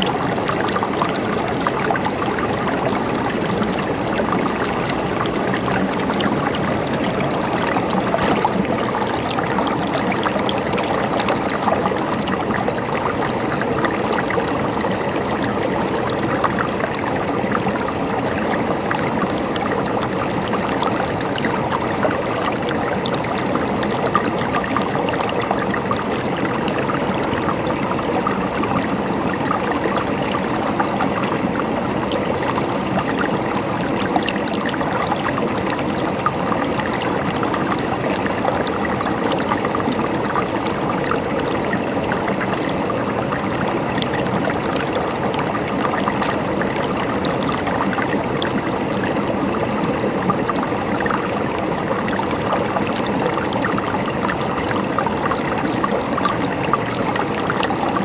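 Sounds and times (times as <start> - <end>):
small water splashes: 0.0 - 58.0
stream water flowing: 0.0 - 58.0.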